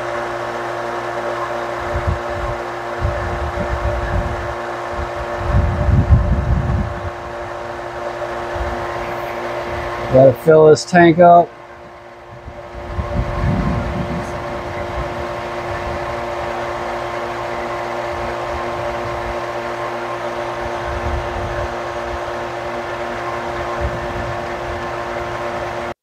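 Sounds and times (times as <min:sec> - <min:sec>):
electric water pump humming: 0:00.0 - 0:26.0.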